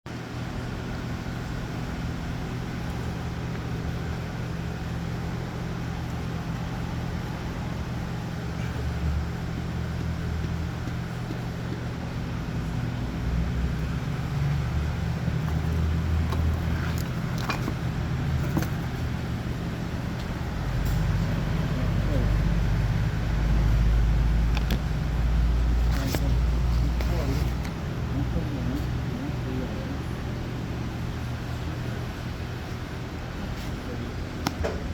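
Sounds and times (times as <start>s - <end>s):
machinery humming: 0.2s - 34.9s.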